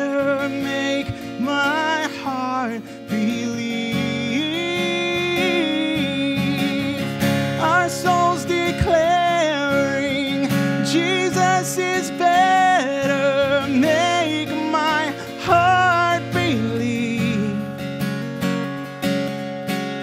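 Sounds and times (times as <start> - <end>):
man singing worship song: 0.0 - 17.8
strummed acoustic guitar: 0.0 - 20.0.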